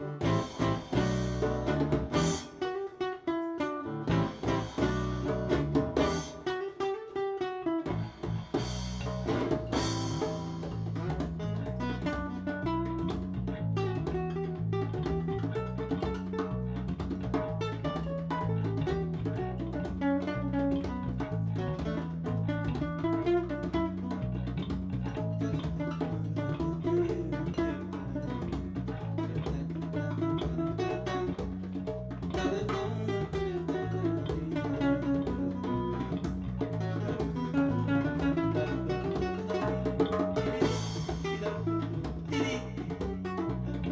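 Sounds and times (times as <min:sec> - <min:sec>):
upright bass: 0:00.0 - 0:02.6, 0:03.8 - 0:06.5, 0:07.8 - 0:43.9
acoustic guitar slow tune: 0:00.0 - 0:16.8, 0:17.6 - 0:43.9
light percussion: 0:00.0 - 0:43.9.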